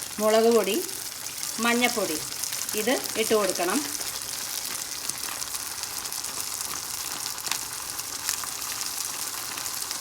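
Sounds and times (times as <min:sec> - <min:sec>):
paste sizzling in oil: 0:00.0 - 0:10.0
small crackles: 0:01.2 - 0:10.0.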